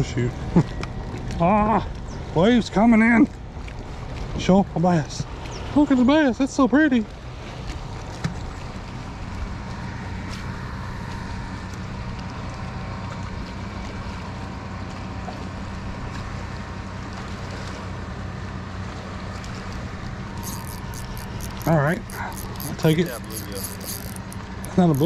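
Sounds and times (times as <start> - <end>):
boat engine humming: 0.0 - 25.0
water noise: 0.0 - 25.0
wind: 0.0 - 25.0.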